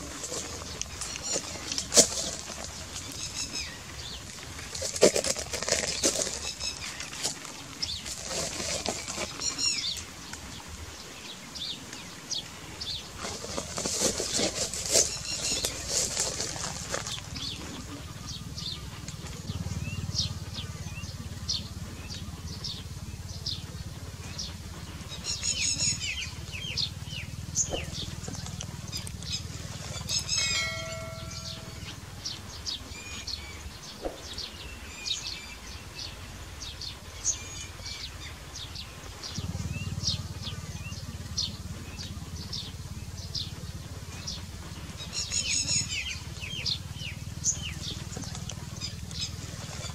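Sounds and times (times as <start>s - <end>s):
lapwing calling: 0.0s - 10.3s, 11.8s - 34.2s, 39.0s - 49.9s.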